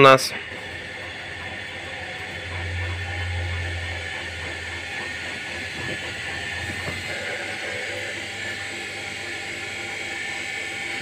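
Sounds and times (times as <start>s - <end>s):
washing machine motor humming: 0.0s - 11.0s.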